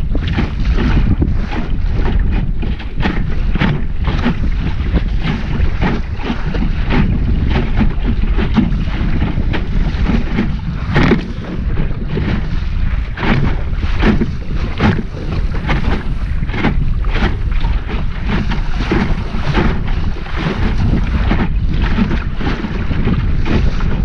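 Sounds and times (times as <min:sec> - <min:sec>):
water splashing against hull: 0:00.0 - 0:24.0
wind buffeting microphone: 0:00.0 - 0:24.0.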